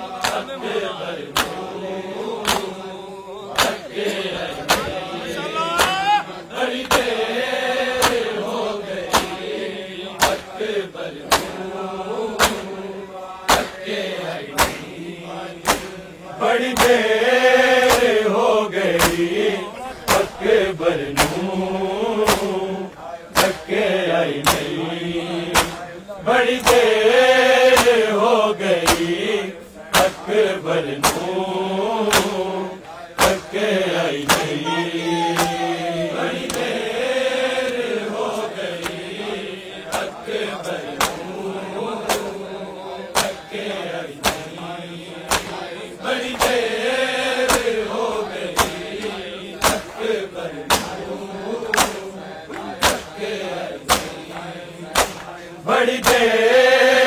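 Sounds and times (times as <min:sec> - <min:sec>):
hand slaps on bare chests: 0:00.0 - 0:02.9, 0:03.5 - 0:07.3, 0:07.9 - 0:12.8, 0:13.4 - 0:21.6, 0:22.2 - 0:24.8, 0:25.4 - 0:25.9, 0:26.5 - 0:29.3, 0:29.9 - 0:31.4, 0:32.0 - 0:36.8, 0:37.6 - 0:39.2, 0:39.8 - 0:41.4, 0:42.0 - 0:46.8, 0:47.4 - 0:56.4
men chanting a lament: 0:00.0 - 0:57.0.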